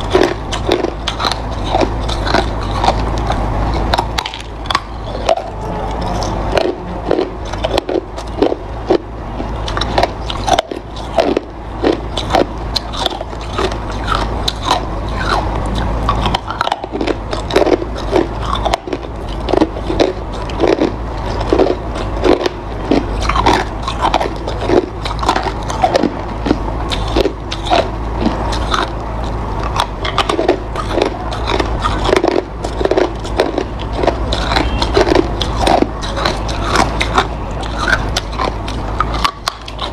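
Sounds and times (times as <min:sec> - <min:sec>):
ice crunching while chewed: 0:00.0 - 0:39.9
steady low hum: 0:00.0 - 0:39.9.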